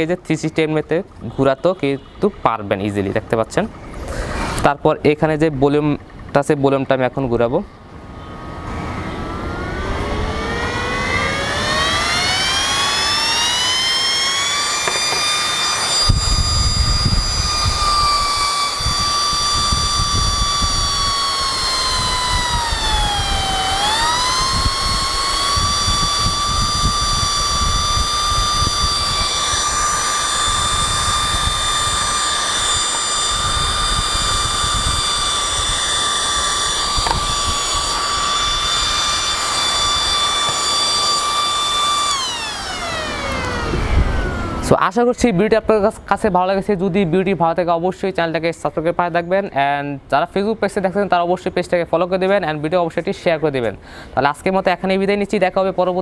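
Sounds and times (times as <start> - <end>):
fan high-pitched whine: 0.0 - 56.0.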